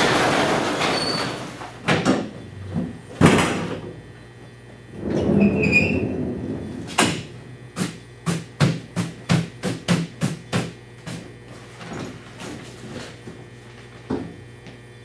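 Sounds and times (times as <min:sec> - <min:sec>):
steady mains hum: 0:00.0 - 0:15.0.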